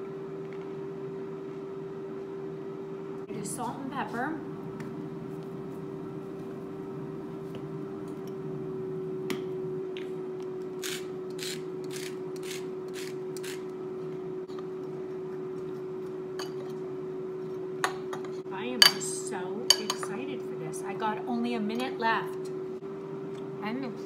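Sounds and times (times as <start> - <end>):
air fryer humming: 0.0 - 24.0.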